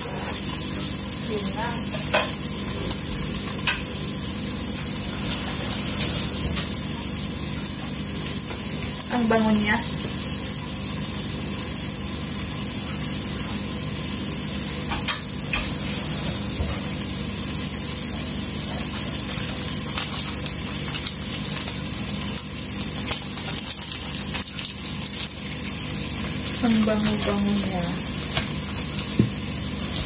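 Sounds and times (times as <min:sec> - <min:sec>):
vegetables sizzling in skillet: 0:00.0 - 0:30.0.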